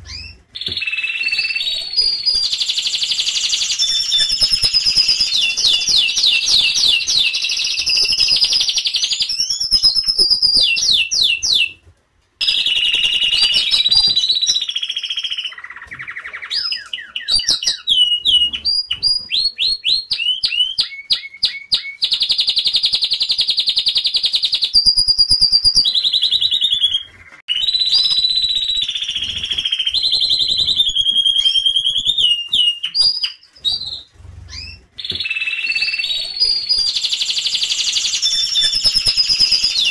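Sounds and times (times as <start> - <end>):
canary singing: 0.0 - 11.8, 12.4 - 39.9.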